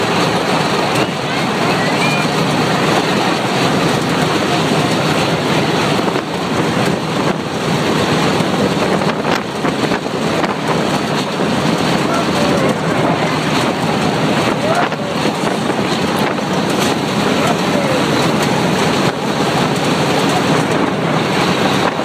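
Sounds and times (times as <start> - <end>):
railcar rumbling on track: 0.0 - 22.0
wind rushing: 0.0 - 22.0.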